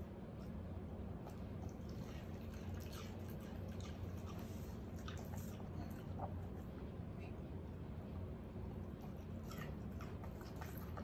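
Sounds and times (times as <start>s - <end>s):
dog licking and lip-smacking: 0.0s - 7.4s, 8.1s - 11.0s
steady low hum: 0.0s - 11.0s.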